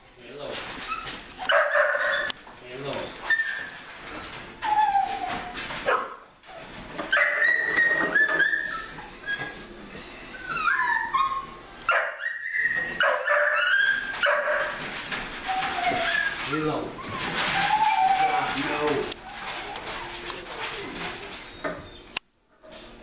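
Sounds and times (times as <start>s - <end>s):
puppies whining and yelping: 0.8s - 22.2s.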